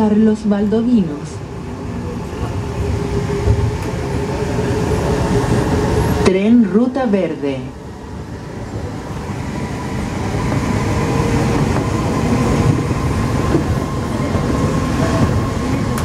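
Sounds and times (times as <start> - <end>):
metro train rolling rumble: 0.0 - 16.0.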